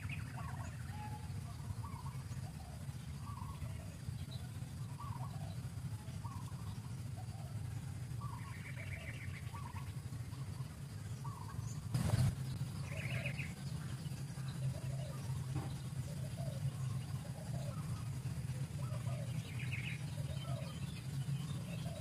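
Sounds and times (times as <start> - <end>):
birds calling: 0.0 - 22.0
steady low hum: 0.0 - 22.0.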